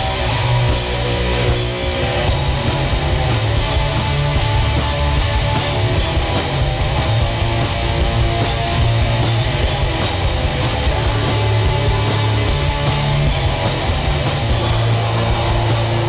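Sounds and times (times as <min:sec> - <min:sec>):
heavy rock band playing: 0:00.0 - 0:16.0.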